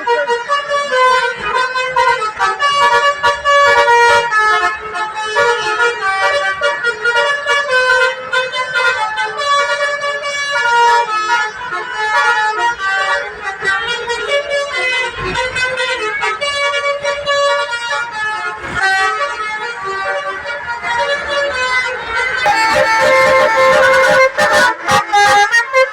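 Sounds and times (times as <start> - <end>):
musical bus horns playing tunes: 0.0 - 25.9.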